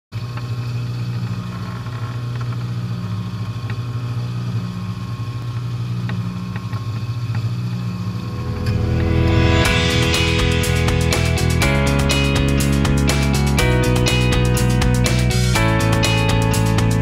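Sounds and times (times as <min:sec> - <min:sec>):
tile saw motor hum: 0:00.2 - 0:17.0.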